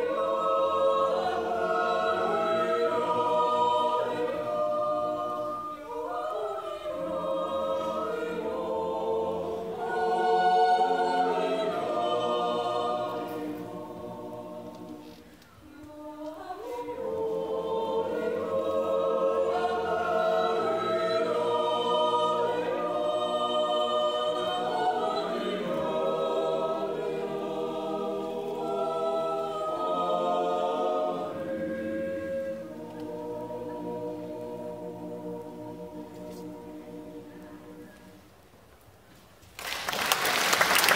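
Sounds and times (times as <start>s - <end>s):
choir singing a cappella: 0.0s - 38.4s.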